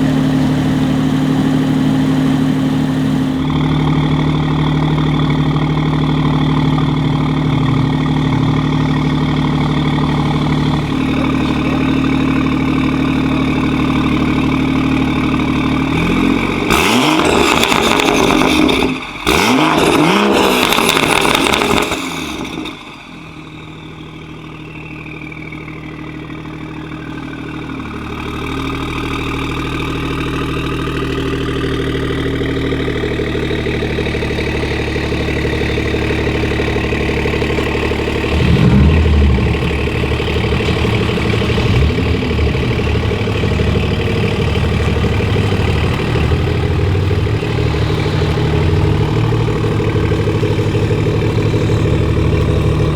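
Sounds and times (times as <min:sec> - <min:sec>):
car engine revving: 0:00.0 - 0:52.9
car engine running: 0:00.0 - 0:52.9.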